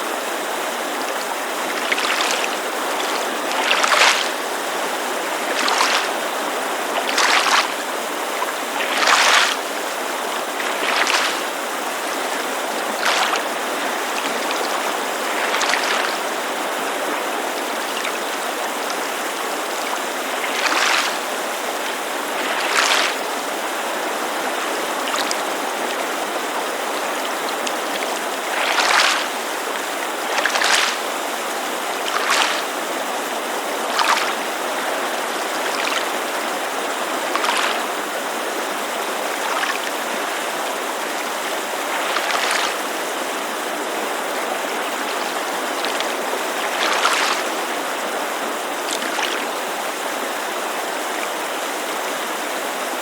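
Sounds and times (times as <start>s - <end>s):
creek rushing: 0.0s - 53.0s
waves lapping against shore: 0.0s - 53.0s.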